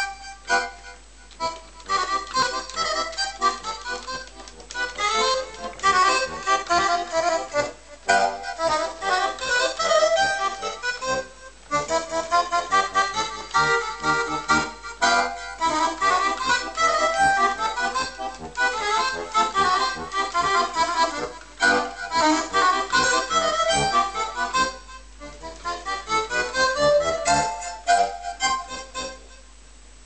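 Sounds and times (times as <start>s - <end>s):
accordion playing a polka: 0.0s - 29.4s.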